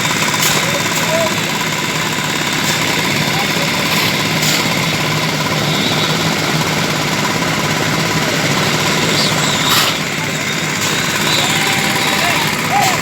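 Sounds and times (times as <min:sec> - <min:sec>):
construction machine engine rattling: 0:00.0 - 0:13.0.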